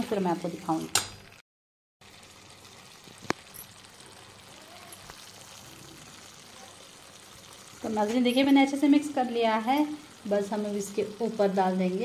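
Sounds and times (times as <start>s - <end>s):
gravy simmering in a pan: 2.0s - 12.0s.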